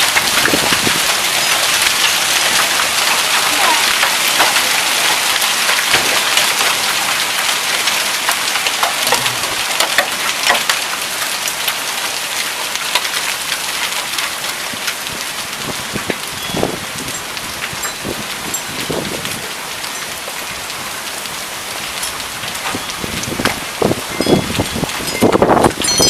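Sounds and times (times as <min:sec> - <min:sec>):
hail striking surfaces: 0:00.0 - 0:26.0
heavy rain: 0:00.0 - 0:26.0.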